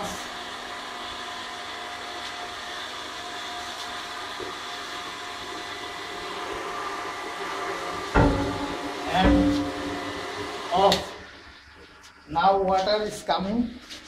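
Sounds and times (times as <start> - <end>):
electric water pump running: 0.0 - 12.0.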